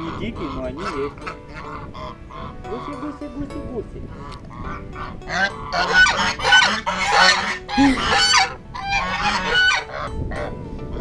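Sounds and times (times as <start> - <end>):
geese honking: 0.0 - 3.2, 4.0 - 11.0.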